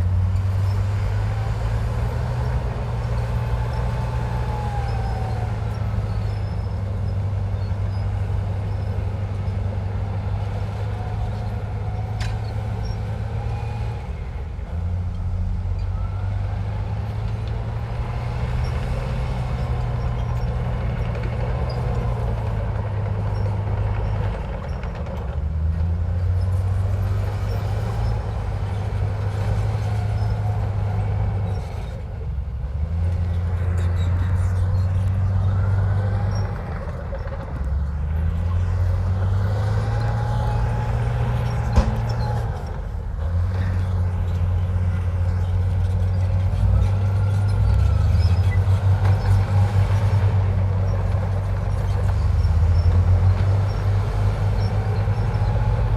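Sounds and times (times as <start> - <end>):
bulldozer diesel engine: 0.0 - 55.9
faint high squeals: 0.3 - 14.2, 15.1 - 22.2, 26.2 - 32.1, 32.9 - 50.9.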